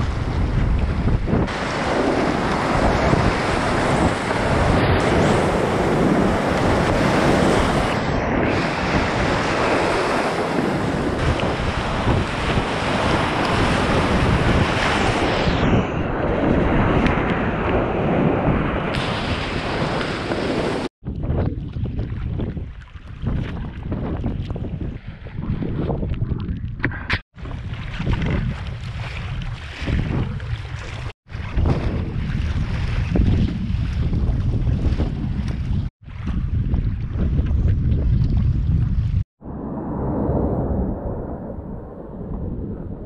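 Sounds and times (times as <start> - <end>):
quieter water: 0.0 - 43.0.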